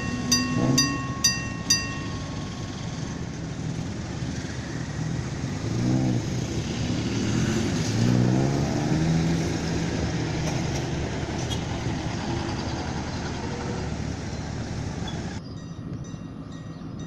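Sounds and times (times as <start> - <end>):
engine running: 0.0 - 15.4.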